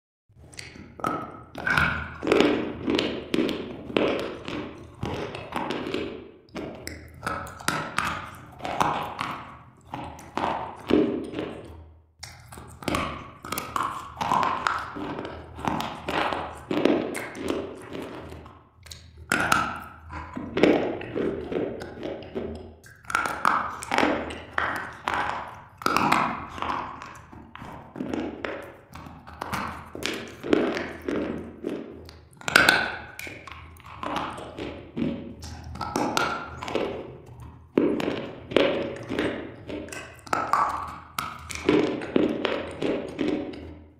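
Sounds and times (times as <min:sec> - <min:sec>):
crunching and chewing: 0:00.4 - 0:43.9.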